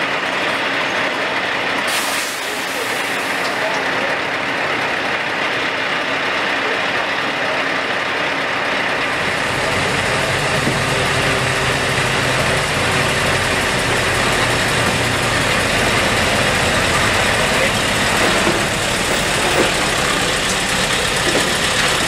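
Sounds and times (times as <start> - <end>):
truck diesel engine humming: 0.0 - 22.0.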